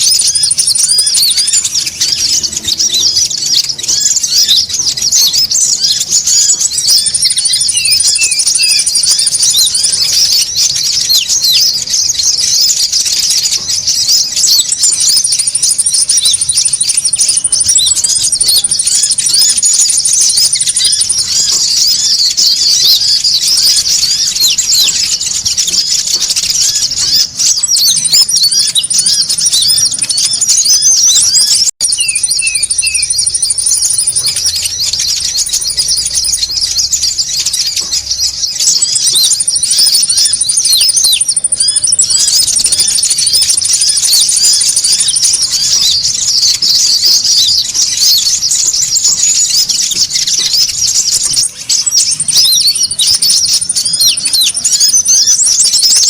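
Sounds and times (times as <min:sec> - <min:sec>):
birds chirping: 0:00.0 - 0:56.0
high bird trills: 0:00.0 - 0:56.0.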